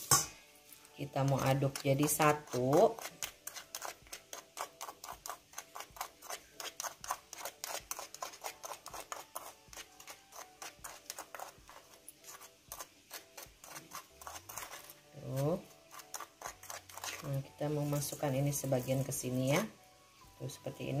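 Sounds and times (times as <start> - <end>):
metal spoon scraping small bowl: 1.2 - 19.8.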